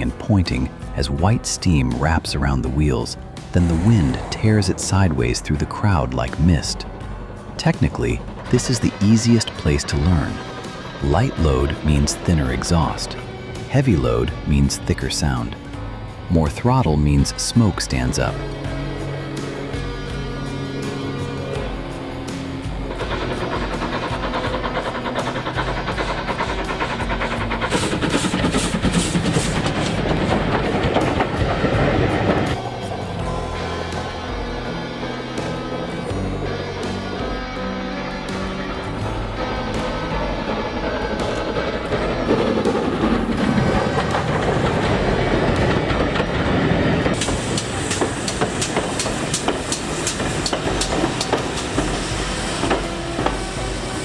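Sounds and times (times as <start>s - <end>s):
background music: 0.0s - 54.0s
steam locomotive chuffing: 0.0s - 54.0s.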